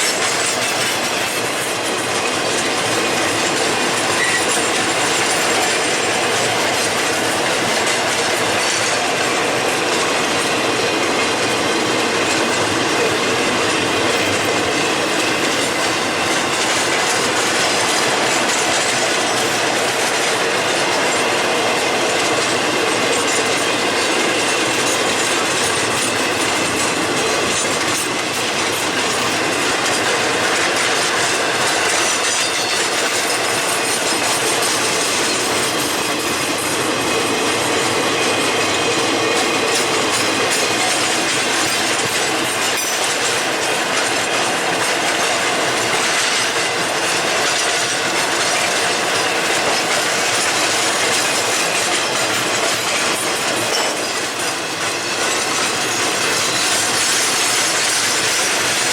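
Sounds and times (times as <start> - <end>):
train cars rolling on rails: 0.0 - 58.9.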